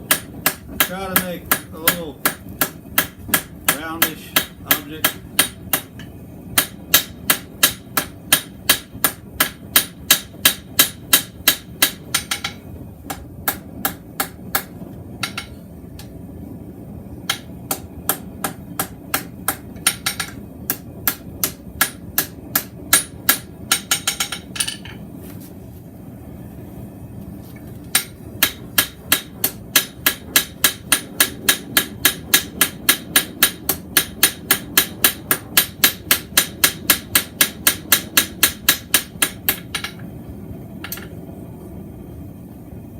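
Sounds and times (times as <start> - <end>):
hammer striking hot metal: 0.0 - 16.2, 17.2 - 25.0, 27.9 - 40.1.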